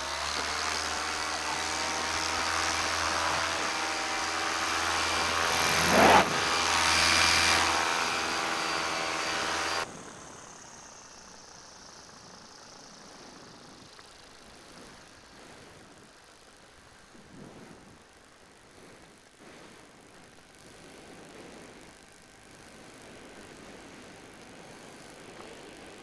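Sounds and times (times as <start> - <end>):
paramotor engine and propeller: 0.0 - 26.0.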